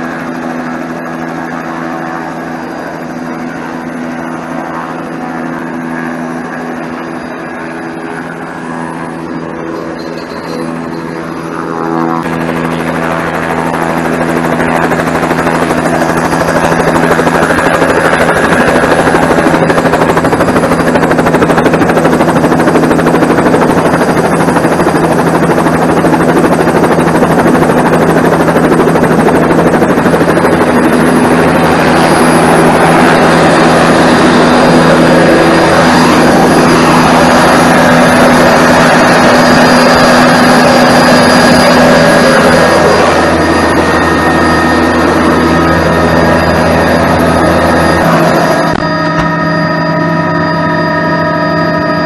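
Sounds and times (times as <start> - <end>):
helicopter turbine and rotor noise: 0.0 - 52.0.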